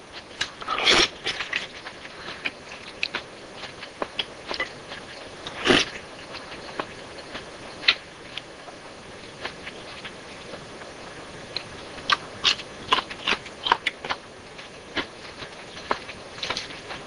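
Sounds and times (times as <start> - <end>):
crunching while eating salad: 0.0 - 17.0.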